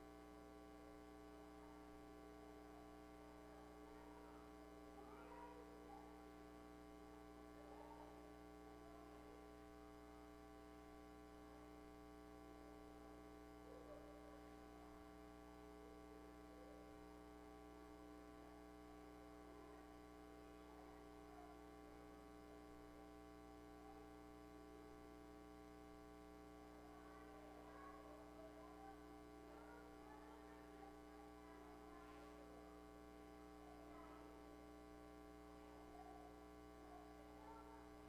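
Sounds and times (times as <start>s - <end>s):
steady electrical hum: 0.0s - 38.0s.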